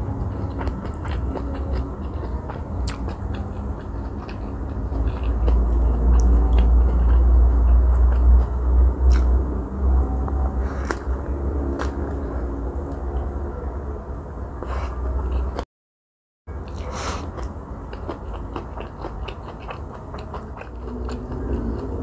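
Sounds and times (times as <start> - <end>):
steady low rumble: 0.0 - 15.6, 16.5 - 22.0.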